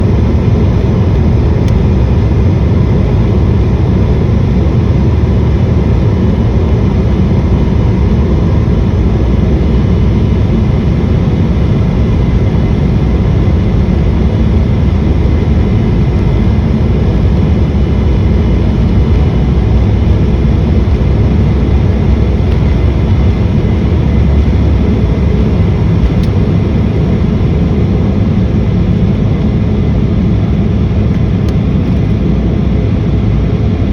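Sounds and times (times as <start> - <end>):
jet engine and airflow noise: 0.0 - 33.9.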